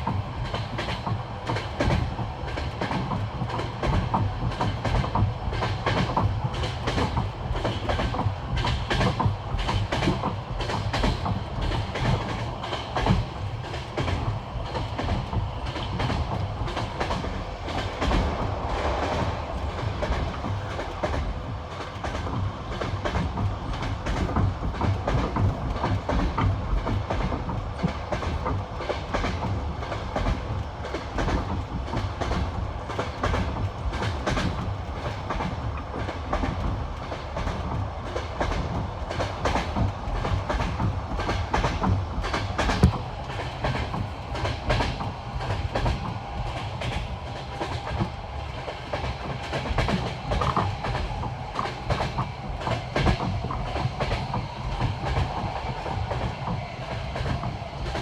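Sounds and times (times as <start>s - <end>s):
low rumble of train carriage: 0.0s - 58.0s
train wheels clattering over rail joints: 0.0s - 58.0s.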